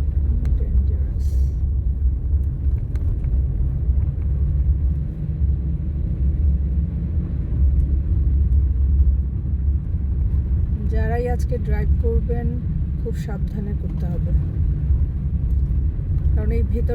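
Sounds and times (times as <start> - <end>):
car engine and tyres rumble: 0.0 - 16.9.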